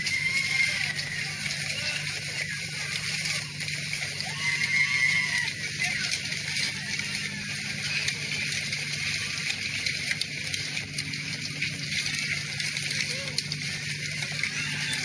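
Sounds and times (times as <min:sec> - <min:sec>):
hailstones clicking: 0:00.0 - 0:15.0
steady low hum: 0:00.0 - 0:15.0.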